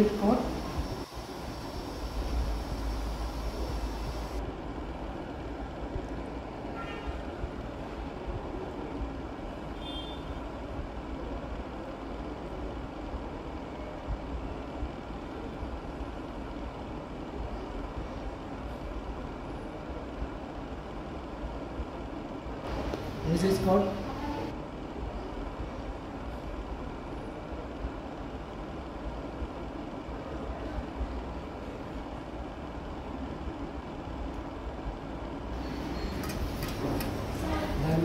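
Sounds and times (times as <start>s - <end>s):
kitchen background rumble and hiss: 0.0s - 38.0s.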